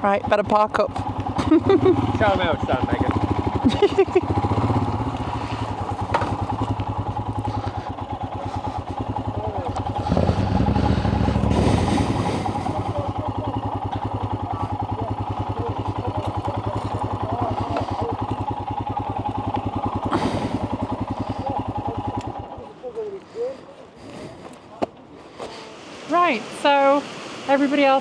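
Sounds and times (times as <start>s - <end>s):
motorcycle engine running: 0.0s - 24.7s.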